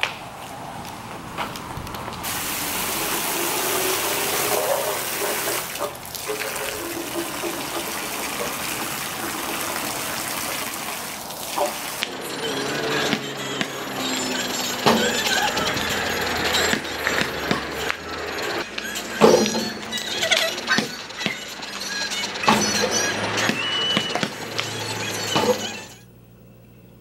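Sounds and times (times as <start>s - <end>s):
water rushing: 2.2s - 25.8s.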